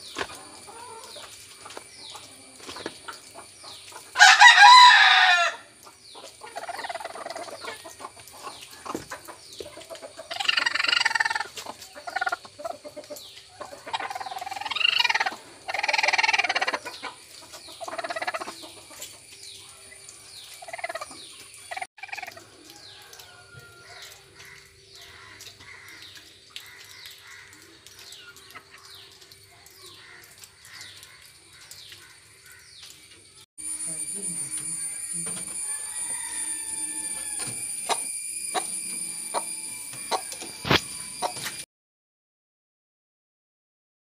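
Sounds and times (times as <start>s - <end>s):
chickens calling: 0.0s - 32.2s, 34.7s - 41.6s.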